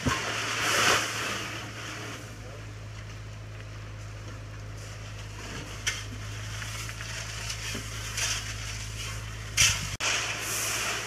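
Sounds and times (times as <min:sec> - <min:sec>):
gravel crunching and scraping: 0:00.0 - 0:11.0
steady low hum: 0:00.0 - 0:11.0.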